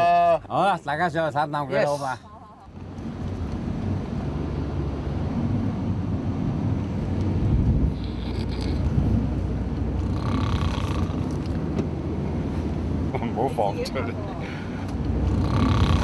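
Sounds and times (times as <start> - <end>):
coach engine rumble and road noise: 0.0 - 16.0.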